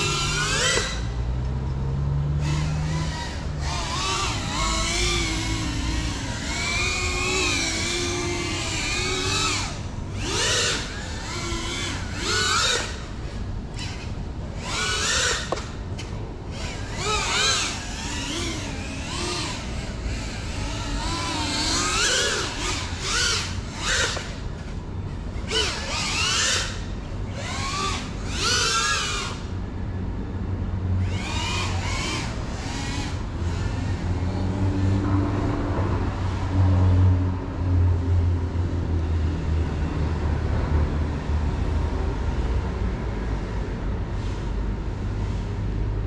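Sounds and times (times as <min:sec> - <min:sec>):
drone motors whining: 0:00.0 - 0:37.2.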